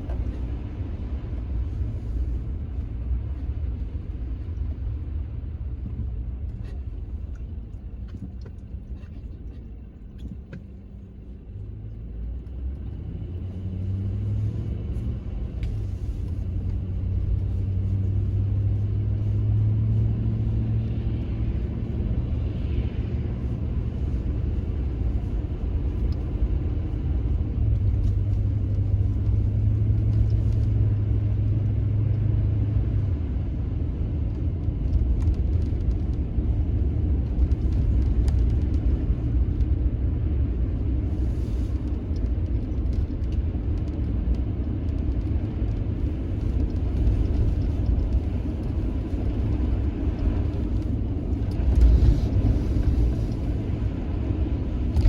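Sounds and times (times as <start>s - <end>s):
engine rumbling: 0.0s - 55.0s
low hum: 0.0s - 55.0s.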